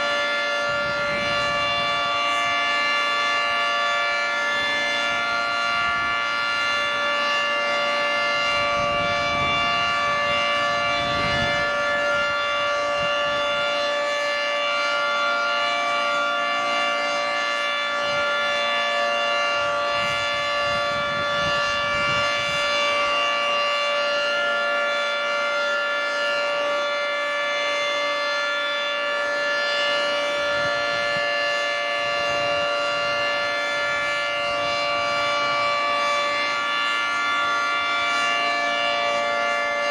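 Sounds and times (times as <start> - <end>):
tornado siren chord: 0.0 - 39.9.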